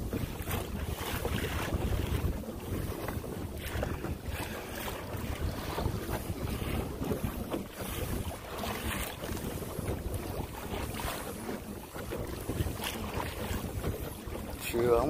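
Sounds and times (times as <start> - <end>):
water lapping against hull: 0.0 - 15.0
wind buffeting microphone: 0.0 - 15.0.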